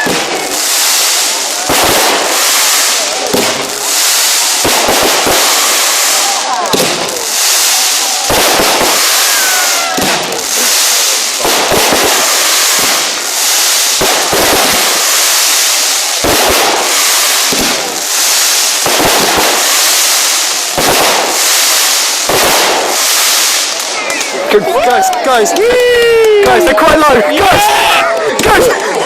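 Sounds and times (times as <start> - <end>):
crackling fizz of fireworks: 0.0 - 29.0
fireworks bangs: 0.0 - 29.0.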